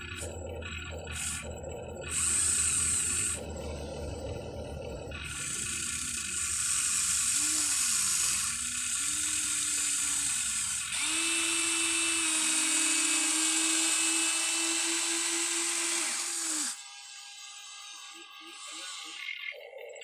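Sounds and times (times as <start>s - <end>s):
electric motors whirring: 0.0s - 19.6s.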